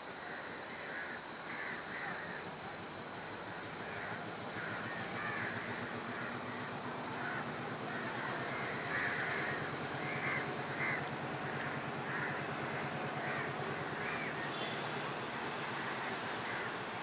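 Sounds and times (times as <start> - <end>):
crows cawing: 0.3 - 2.4, 3.8 - 14.7, 15.8 - 16.8
diesel locomotive engine running: 1.2 - 17.0.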